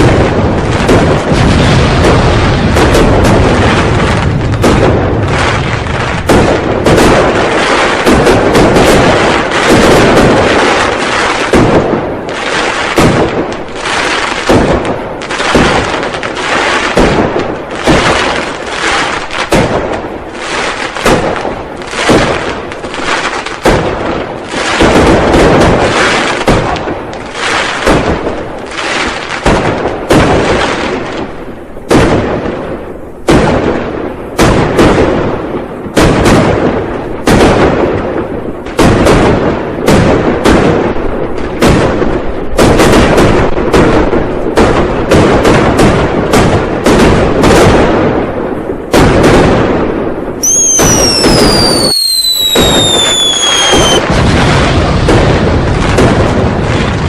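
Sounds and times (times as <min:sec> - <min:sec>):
firecrackers banging and crackling: 0:00.0 - 0:57.0
loud firecracker blasts: 0:00.0 - 0:57.0.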